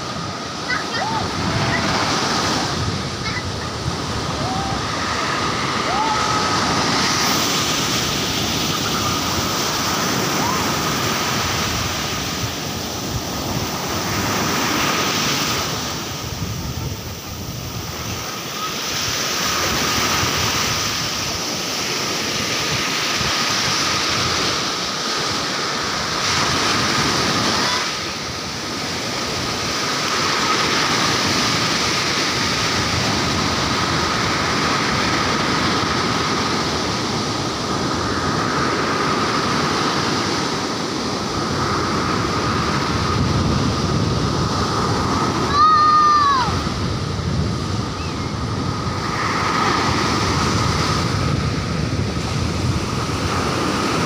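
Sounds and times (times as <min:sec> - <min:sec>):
surf breaking on beach: 0:00.0 - 0:54.0.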